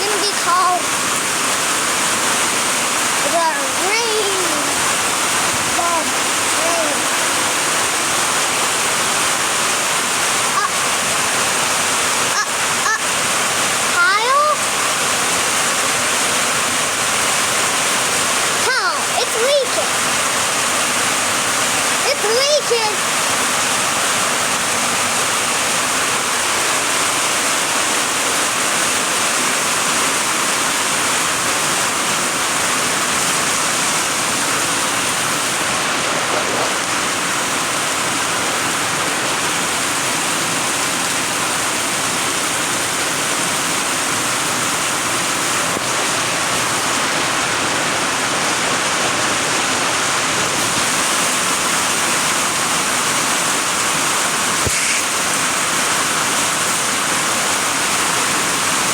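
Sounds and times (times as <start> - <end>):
heavy rain pouring: 0.0 - 58.9.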